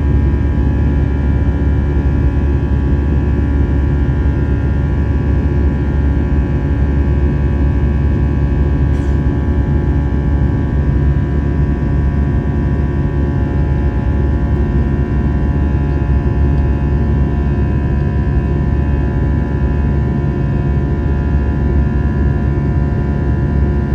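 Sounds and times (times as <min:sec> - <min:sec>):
airplane cabin jet engine drone: 0:00.0 - 0:23.9.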